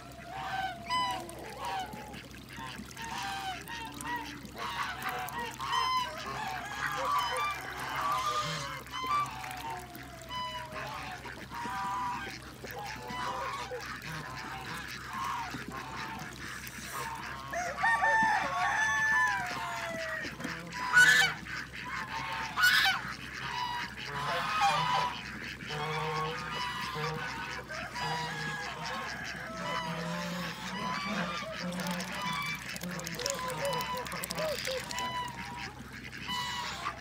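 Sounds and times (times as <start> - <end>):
waterfowl and chickens calling: 0.0 - 37.0.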